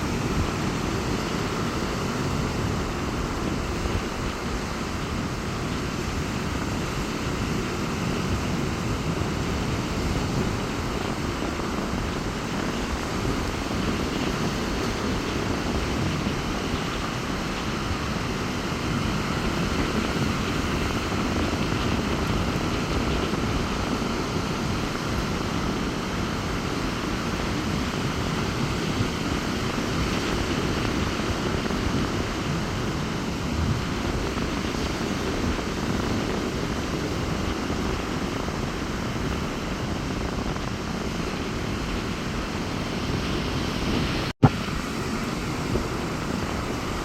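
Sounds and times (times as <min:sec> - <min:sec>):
rough sea surf rumbling: 0:00.0 - 0:47.0
wind buffeting microphone: 0:00.0 - 0:47.0.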